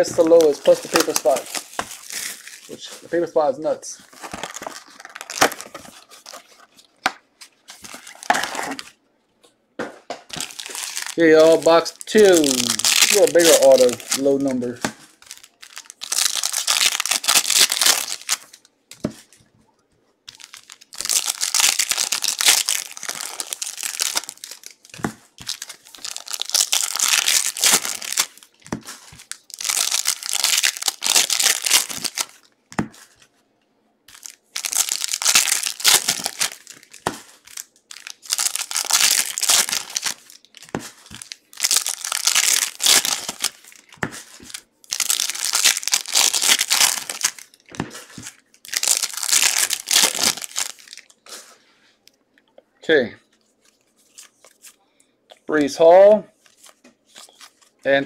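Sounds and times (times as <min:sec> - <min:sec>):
foil wrappers crinkling and tearing: 0:00.0 - 0:09.0, 0:10.3 - 0:19.4, 0:20.3 - 0:33.2, 0:34.1 - 0:51.2.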